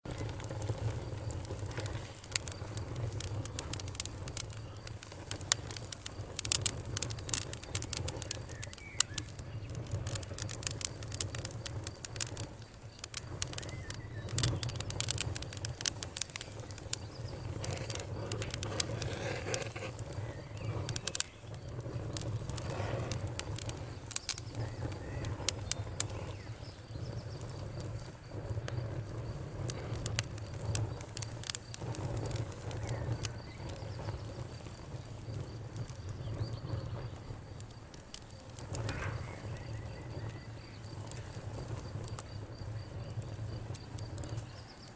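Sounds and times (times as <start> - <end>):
wood fire crackling and popping: 0.0 - 44.9
crickets chirping: 0.1 - 44.9.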